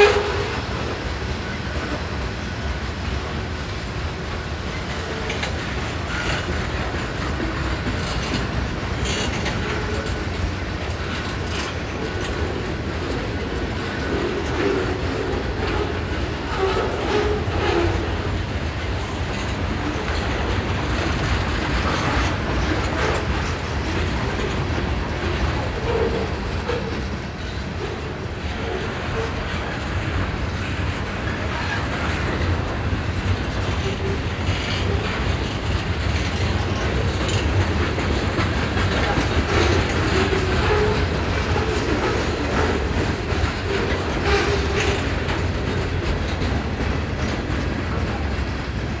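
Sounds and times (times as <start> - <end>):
freight cars clicking and clanking: 0.0 - 49.0
train wheels rumbling on rails: 0.0 - 49.0.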